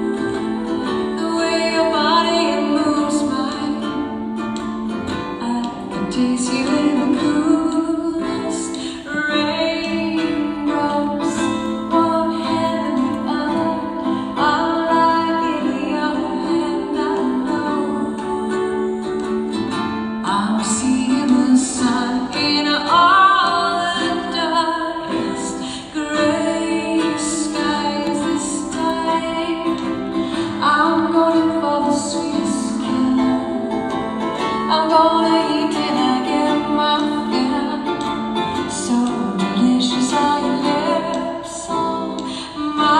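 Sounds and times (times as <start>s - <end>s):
guitar: 0.0s - 42.9s
woman singing: 0.0s - 42.9s.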